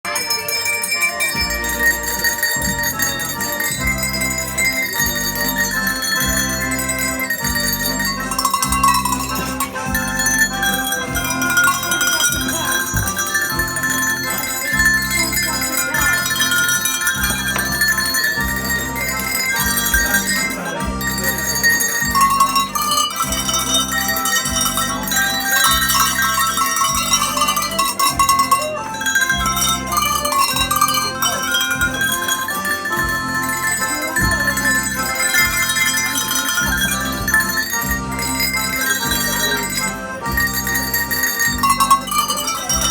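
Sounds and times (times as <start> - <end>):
handbell cowbells playing melody: 0.0 - 42.9
repeating bass accompaniment: 0.1 - 42.9.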